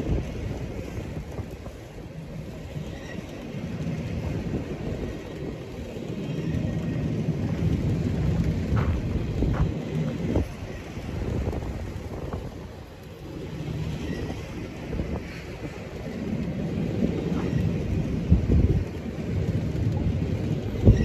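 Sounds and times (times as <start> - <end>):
freight train rumbling on rails: 0.0 - 21.0.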